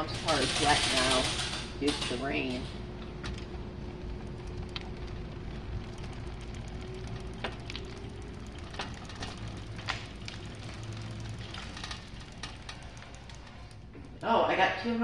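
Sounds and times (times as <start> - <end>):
bike clicks and rattles: 0.0 - 14.6
bike tires rumbling on concrete: 0.0 - 15.0
faint electric hum: 0.0 - 15.0.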